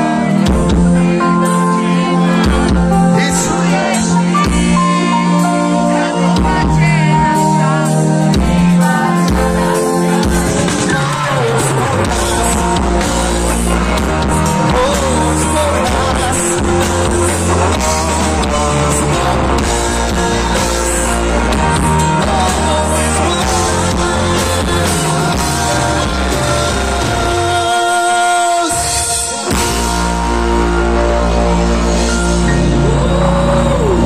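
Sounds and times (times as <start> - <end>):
live pop-rock band: 0.0 - 34.0.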